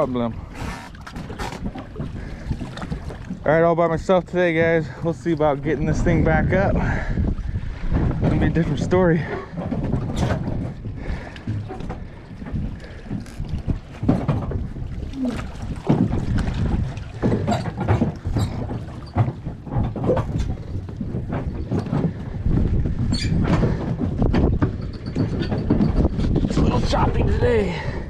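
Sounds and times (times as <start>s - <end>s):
splashes and knocks: 0.0s - 27.6s
water slapping against boat hull: 0.0s - 28.0s
wind buffeting microphone: 0.0s - 28.0s.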